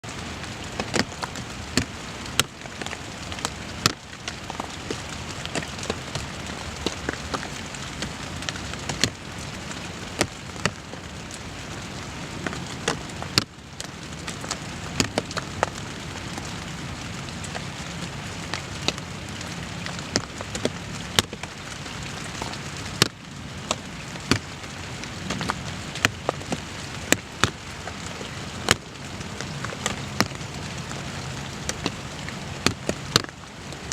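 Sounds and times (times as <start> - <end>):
raindrops ticking: 0.0 - 33.9
steady rain hiss: 0.0 - 33.9.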